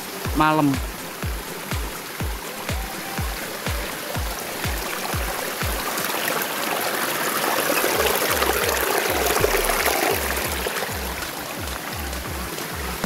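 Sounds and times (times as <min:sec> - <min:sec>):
music with low drum beat: 0:00.0 - 0:06.0, 0:08.4 - 0:13.0
water rushing over rocks: 0:00.0 - 0:13.0.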